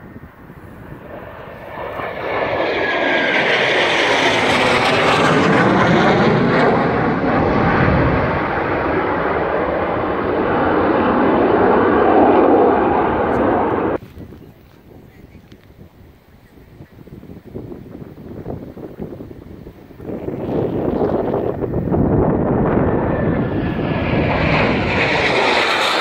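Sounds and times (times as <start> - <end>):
jet roar flying past: 0.0 - 14.0, 18.8 - 26.0.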